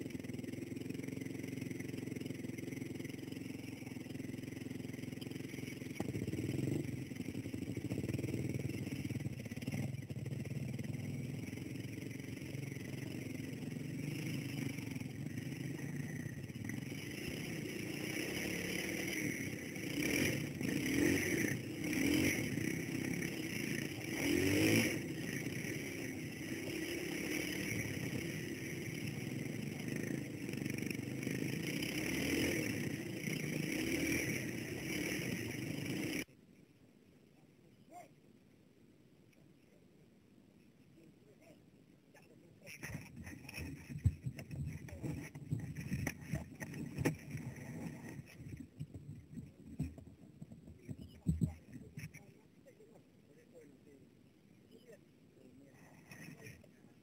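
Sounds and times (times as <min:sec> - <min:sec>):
dirt bike engine revving: 0:00.0 - 0:36.3, 0:42.7 - 0:52.2.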